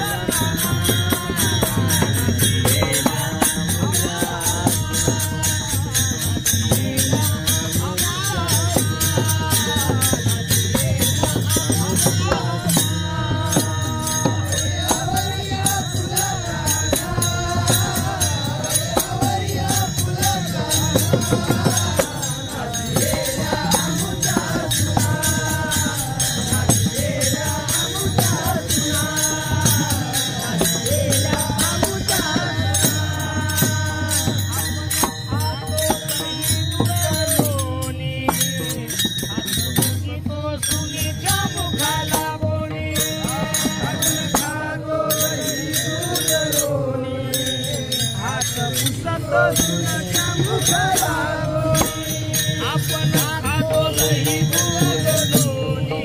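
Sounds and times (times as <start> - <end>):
drum: 0.0 - 45.7
brass hand cymbals clashing: 0.0 - 56.0
men singing together: 0.0 - 56.0.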